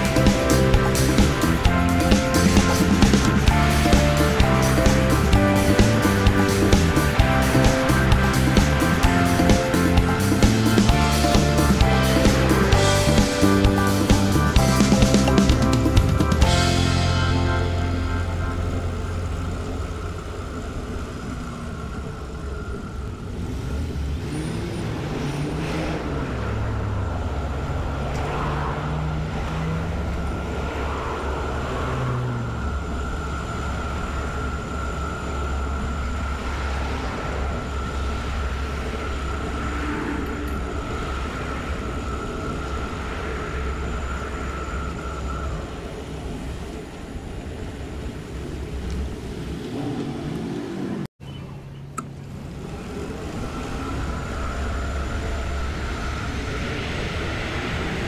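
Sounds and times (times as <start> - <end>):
steady low rumble: 0.0 - 51.1, 52.1 - 58.0
cars and trucks passing: 0.0 - 58.0
high-pitched whine: 0.0 - 58.0.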